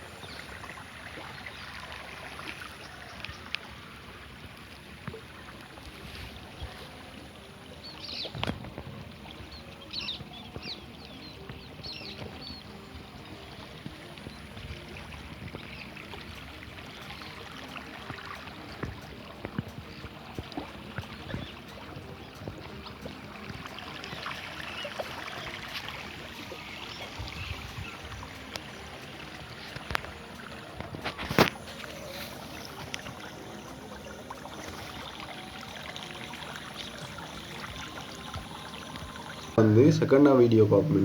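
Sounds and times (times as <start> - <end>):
river water flowing: 0.0 - 41.0.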